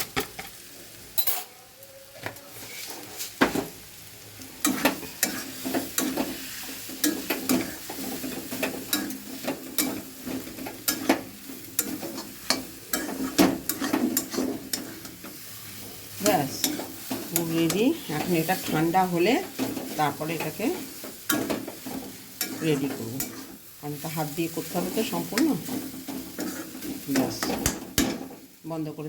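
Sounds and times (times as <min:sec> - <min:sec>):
light sizzle: 0:00.0 - 0:29.0
spatula scraping a metal pan: 0:04.6 - 0:28.4.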